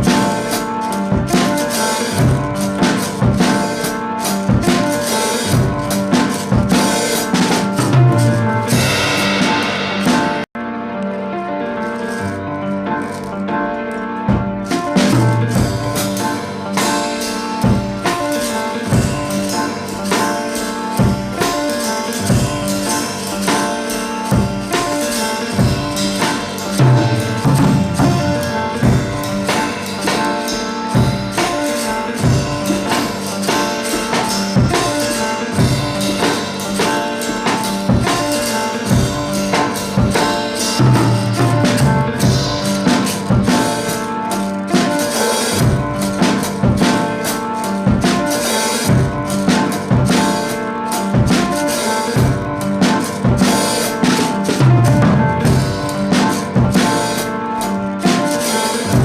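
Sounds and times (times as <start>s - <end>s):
steady percussion beat: 0.0s - 10.5s, 14.3s - 59.0s
instrumental music with held tones: 0.0s - 59.0s.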